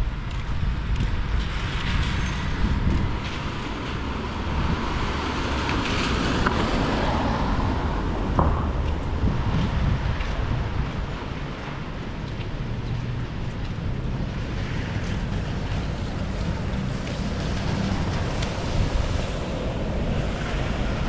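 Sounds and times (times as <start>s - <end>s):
vehicles passing: 0.0s - 21.0s.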